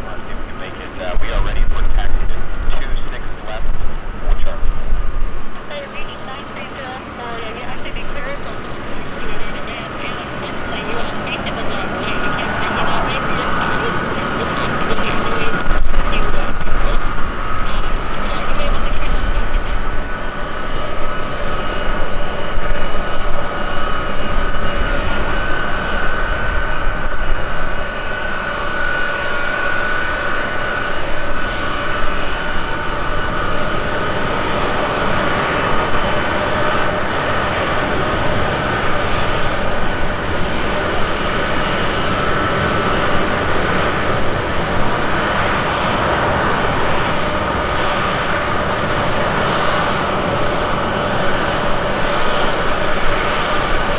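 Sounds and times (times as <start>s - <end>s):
low engine rumble: 0.0s - 48.7s
jet engine whine: 0.0s - 53.9s.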